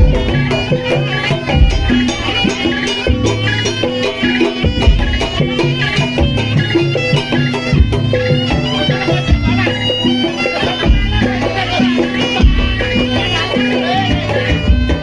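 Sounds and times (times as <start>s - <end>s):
drums beating: 0.0s - 15.0s
shrill reed pipe melody: 0.0s - 15.0s.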